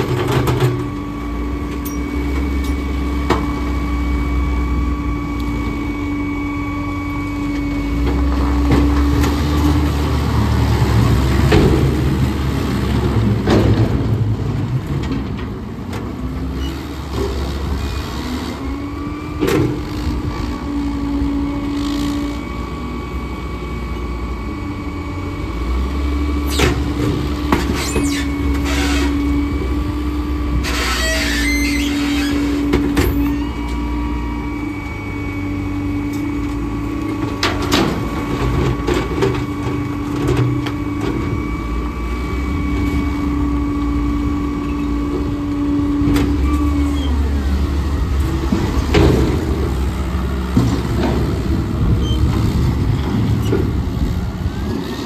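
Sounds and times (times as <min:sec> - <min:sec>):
steady whine: 0:00.0 - 0:16.7, 0:18.4 - 0:55.0
diesel engines rumbling: 0:00.0 - 0:55.0.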